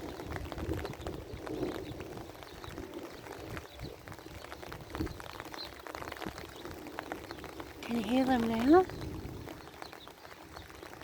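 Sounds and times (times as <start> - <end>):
low thunder rumble: 0.0 - 11.0
rain pattering: 0.0 - 11.0.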